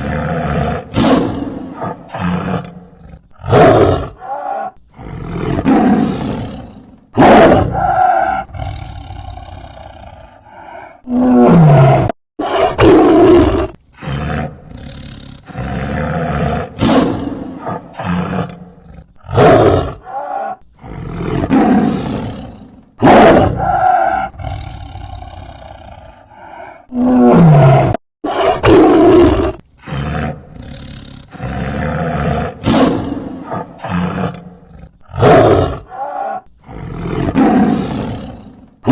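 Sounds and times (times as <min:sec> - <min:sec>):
tiger roaring and growling: 0:00.0 - 0:38.9.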